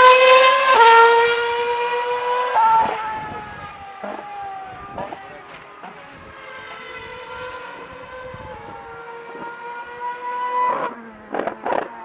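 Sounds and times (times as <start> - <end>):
racing car engine whining at high revs: 0.0 - 12.0.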